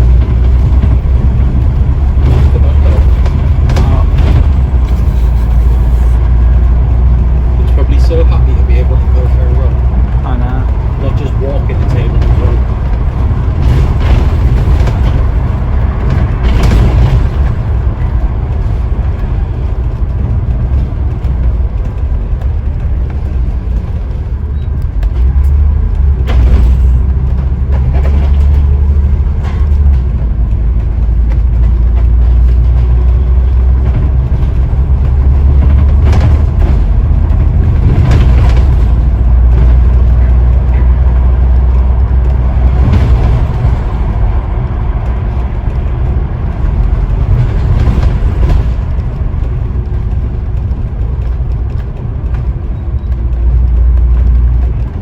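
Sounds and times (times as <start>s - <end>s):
bus body rattles: 0.0s - 55.0s
bus engine rumble: 0.0s - 55.0s.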